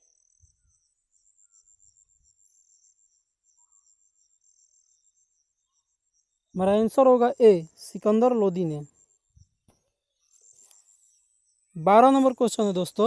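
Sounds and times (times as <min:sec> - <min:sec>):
faint cricket chirping: 0:00.0 - 0:13.0.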